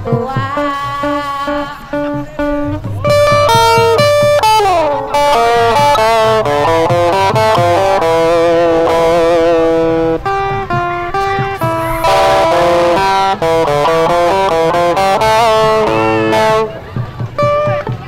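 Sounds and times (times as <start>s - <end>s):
low drum strokes: 0.0s - 18.0s
sliding lead melody: 0.0s - 18.0s.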